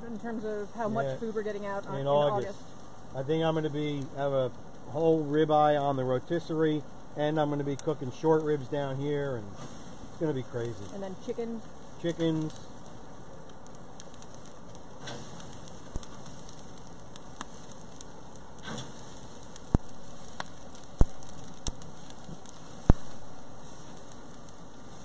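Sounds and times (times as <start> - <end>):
meat sizzling on a grill: 0.0 - 25.0
sharp pops and crackles: 0.0 - 25.0.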